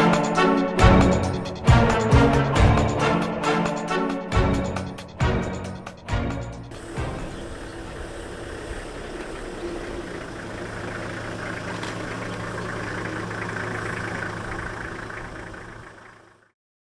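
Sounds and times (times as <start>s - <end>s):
vehicle engine idling: 0.0s - 3.4s, 4.0s - 16.6s.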